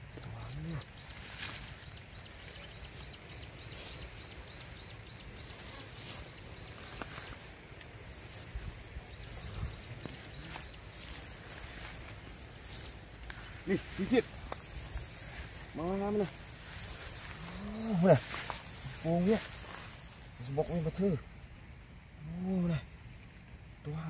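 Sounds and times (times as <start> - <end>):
bird chirping: 0.0 - 24.0
brush rustling and crackling: 0.0 - 24.0.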